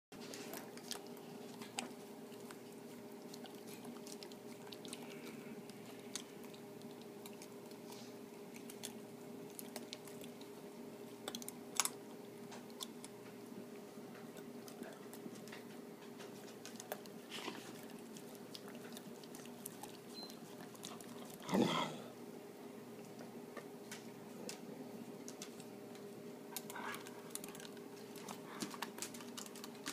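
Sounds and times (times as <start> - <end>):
steady low hum: 0.2 - 29.9.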